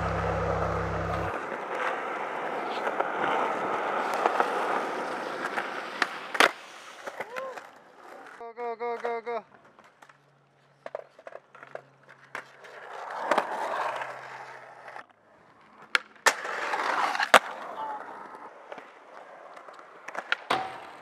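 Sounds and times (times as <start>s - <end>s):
skateboard wheels rolling on concrete: 0.0s - 21.0s
skateboard clacking on concrete: 1.4s - 21.0s.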